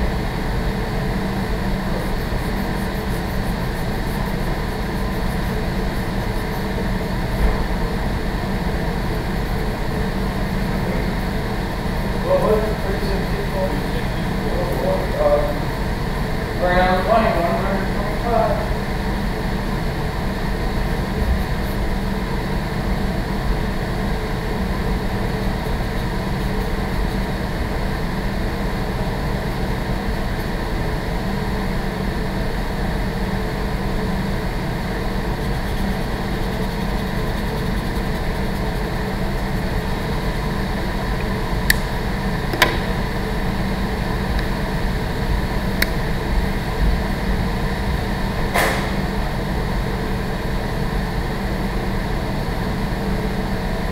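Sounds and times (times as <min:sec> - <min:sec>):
ventilation hum and air rush: 0:00.0 - 0:53.9.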